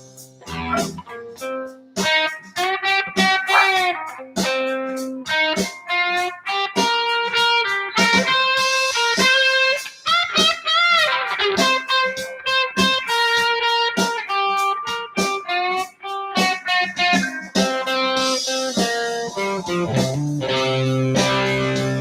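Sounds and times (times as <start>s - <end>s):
electric guitar lead line: 0.0s - 22.0s.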